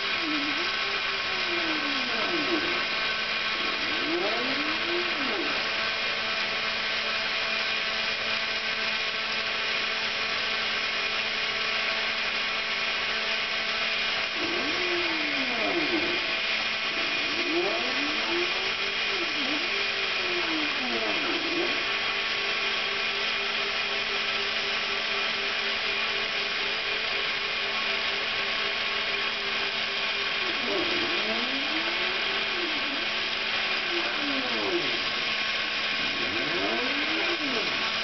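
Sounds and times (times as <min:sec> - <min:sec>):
router spindle whine: 0:00.0 - 0:38.0
stepper motors whining: 0:00.0 - 0:38.0.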